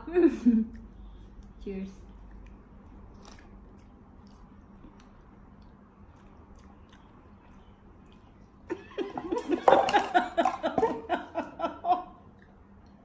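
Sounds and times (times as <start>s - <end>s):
people chewing: 0.3s - 11.1s.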